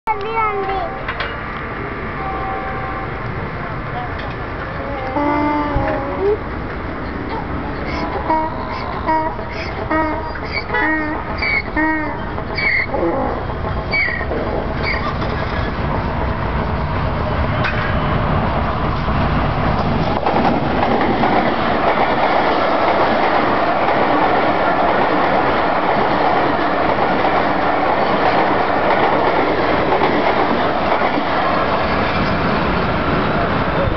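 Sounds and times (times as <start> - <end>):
train passing at speed: 0.1 - 33.9
wheels rushing on rails: 0.1 - 33.9.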